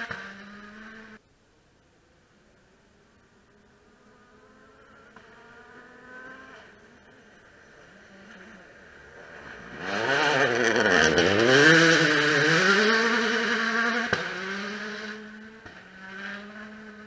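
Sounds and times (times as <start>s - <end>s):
rally car engine passing: 0.0s - 1.2s, 3.4s - 17.0s.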